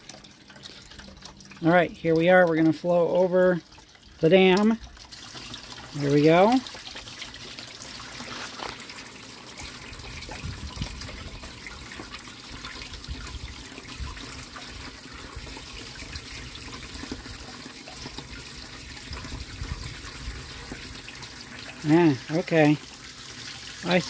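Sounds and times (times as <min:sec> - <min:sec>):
water running and trickling: 0:00.0 - 0:24.0.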